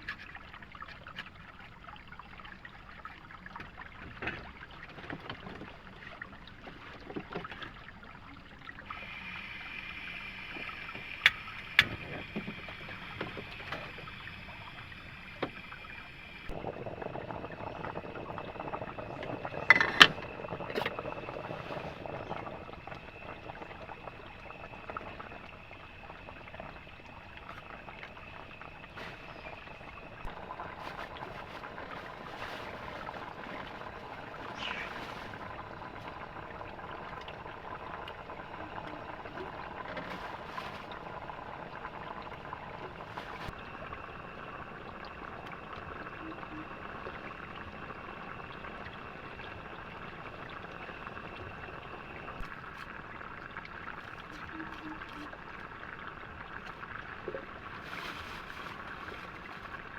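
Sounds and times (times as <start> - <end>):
water flowing and splashing: 0.0 - 59.9.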